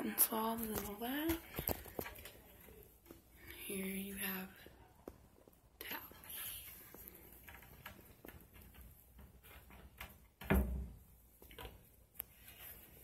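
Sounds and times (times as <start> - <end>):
light clicks and rustles: 0.4 - 3.6, 4.5 - 13.0.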